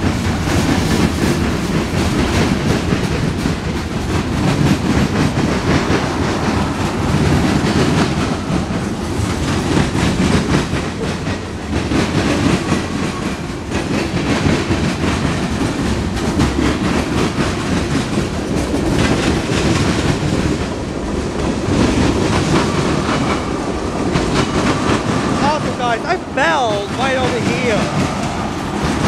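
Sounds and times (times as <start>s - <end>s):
train wheels rumbling on rail: 0.0s - 29.0s
wheels clacking over rail joints: 0.0s - 29.0s.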